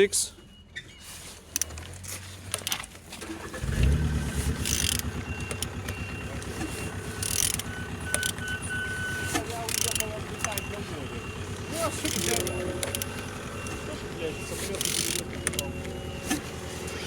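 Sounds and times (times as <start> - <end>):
diesel engine turning over: 1.6 - 17.0.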